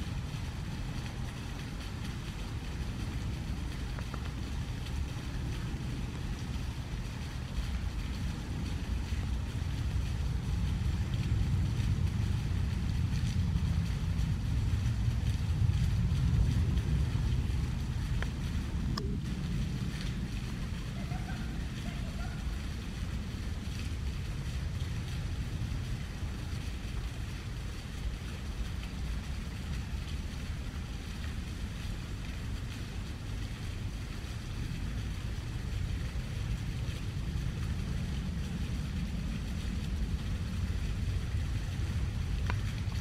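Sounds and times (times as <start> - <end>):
low outdoor rumble: 0.0 - 43.0.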